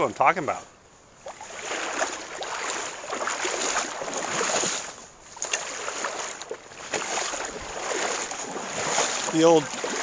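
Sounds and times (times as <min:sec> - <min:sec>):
river rushing and splashing: 0:01.2 - 0:10.0.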